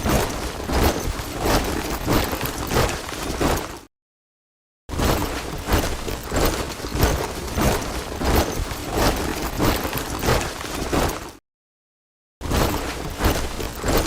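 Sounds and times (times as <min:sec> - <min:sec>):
boots marching in step: 0:00.0 - 0:03.9, 0:05.0 - 0:11.4, 0:12.5 - 0:14.0.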